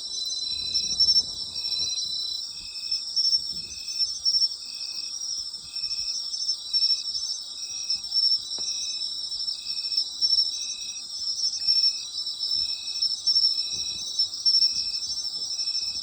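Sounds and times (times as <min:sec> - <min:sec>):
insect chirping: 0:00.0 - 0:16.0
insect chorus: 0:00.0 - 0:16.0.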